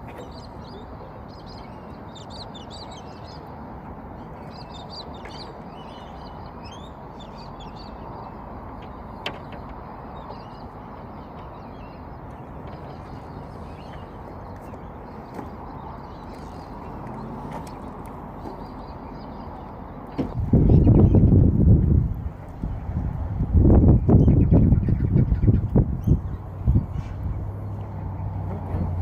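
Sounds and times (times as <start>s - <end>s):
birds chirping: 0.0s - 21.6s, 23.7s - 28.5s.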